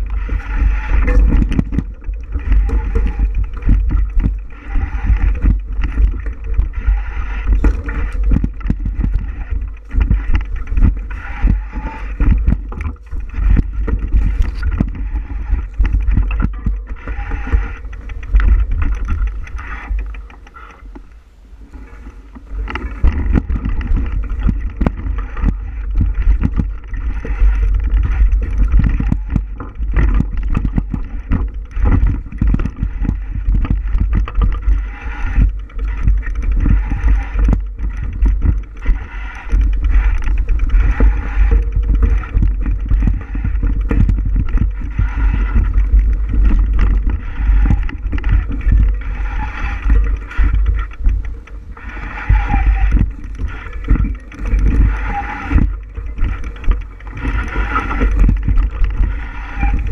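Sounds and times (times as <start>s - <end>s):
bike knocks and rattles: 0.0s - 21.1s, 21.7s - 59.9s
bicycle rumble on rough trail: 0.0s - 59.9s
wind buffeting microphone: 0.0s - 59.9s.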